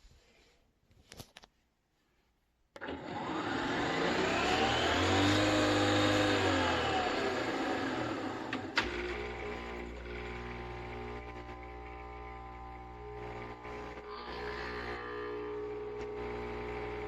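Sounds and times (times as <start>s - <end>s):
coffee machine motor whirring: 2.8s - 17.0s.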